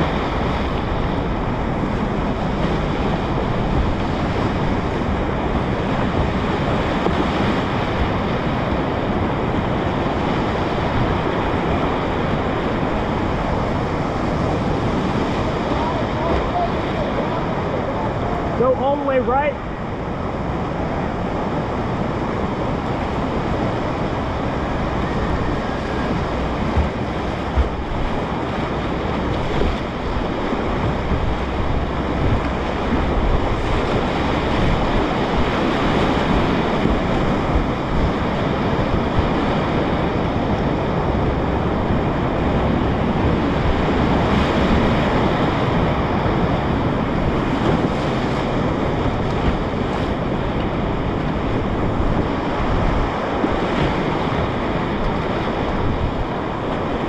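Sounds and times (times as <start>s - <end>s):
wind buffeting microphone: 0.0s - 19.0s, 19.6s - 57.0s
water splashes: 0.0s - 57.0s
whitewater rushing: 0.0s - 57.0s.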